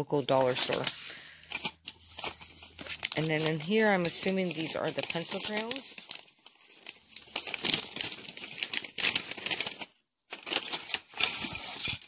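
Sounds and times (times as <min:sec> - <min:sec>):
paper crinkling and tearing: 0:00.0 - 0:12.0.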